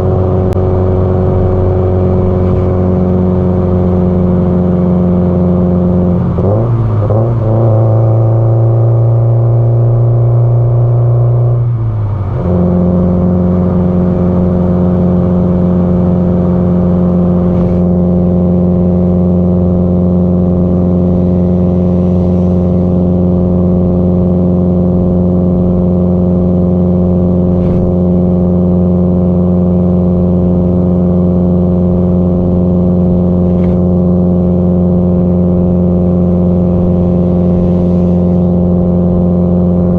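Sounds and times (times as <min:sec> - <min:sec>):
car engine and exhaust droning: 0:00.0 - 0:39.9.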